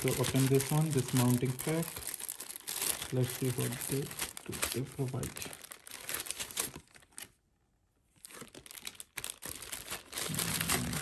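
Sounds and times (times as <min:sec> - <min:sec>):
plastic bag crinkling: 0:00.0 - 0:07.4, 0:08.2 - 0:11.0.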